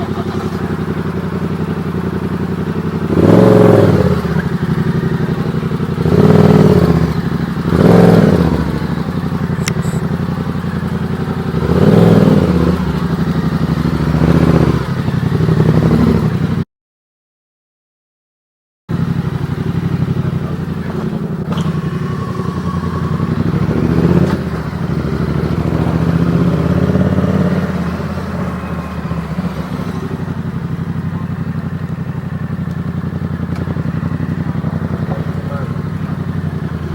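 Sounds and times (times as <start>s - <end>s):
motorcycle engine revving: 0.0s - 16.6s, 18.9s - 36.9s.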